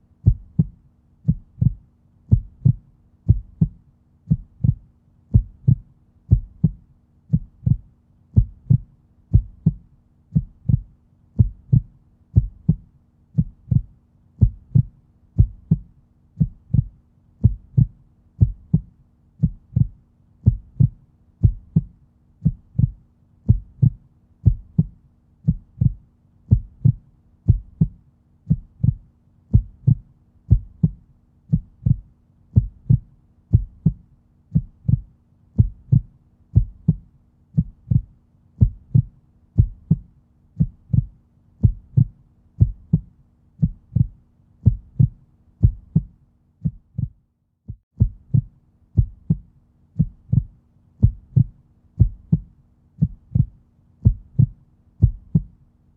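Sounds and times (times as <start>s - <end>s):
heartbeat thudding: 0.2s - 55.6s.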